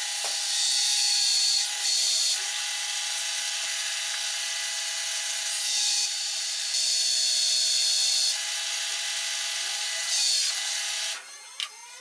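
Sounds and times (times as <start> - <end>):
drill bit cutting workpiece: 0.0 - 12.0.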